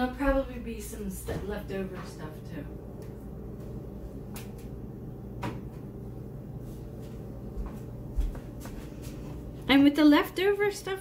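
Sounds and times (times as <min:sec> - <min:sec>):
refrigerator low hum: 0:00.0 - 0:11.0.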